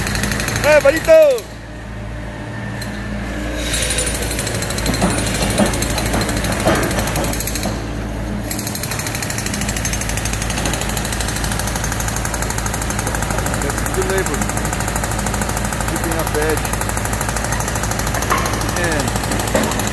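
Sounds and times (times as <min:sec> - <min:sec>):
jackhammer hammering concrete: 0:00.0 - 0:01.6, 0:03.6 - 0:19.9
excavator diesel engine running: 0:00.0 - 0:19.9.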